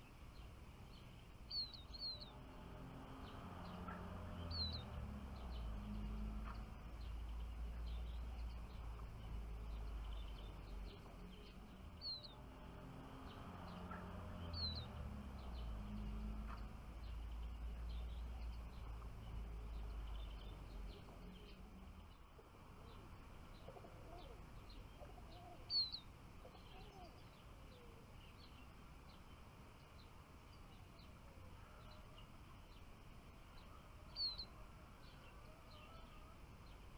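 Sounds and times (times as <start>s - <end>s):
faint bird twittering: 0.0s - 2.5s, 3.1s - 12.4s, 13.2s - 32.9s, 33.5s - 36.9s
songbirds chirping: 0.0s - 36.9s.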